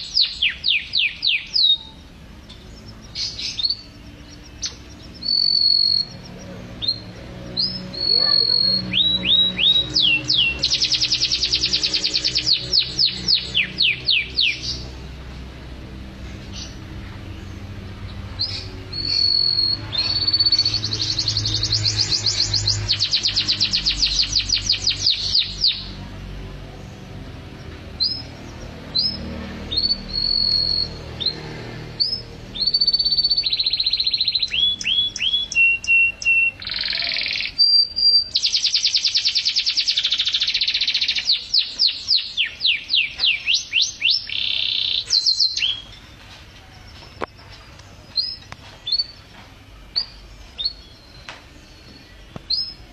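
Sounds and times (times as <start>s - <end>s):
canary singing: 0.0s - 52.9s.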